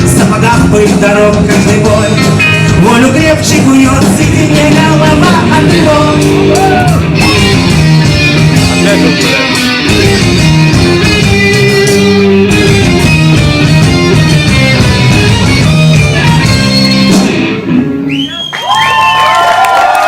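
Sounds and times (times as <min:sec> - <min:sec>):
electric guitar strumming: 0:00.0 - 0:18.1
drums: 0:00.0 - 0:18.5
bass: 0:00.0 - 0:19.4.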